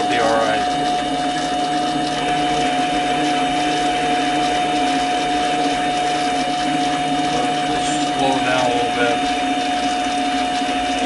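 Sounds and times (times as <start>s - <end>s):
mini lathe motor whine: 0.0s - 11.0s.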